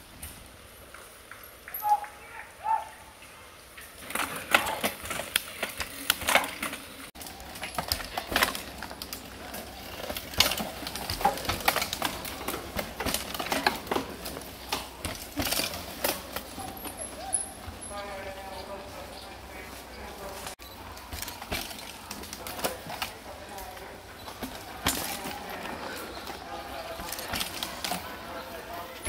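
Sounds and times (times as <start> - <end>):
mountain bikes clattering: 0.0 - 29.0.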